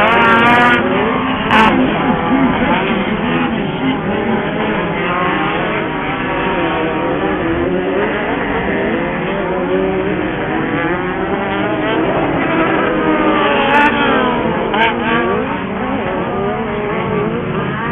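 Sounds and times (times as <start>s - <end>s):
racing buggy engines: 0.0s - 17.9s.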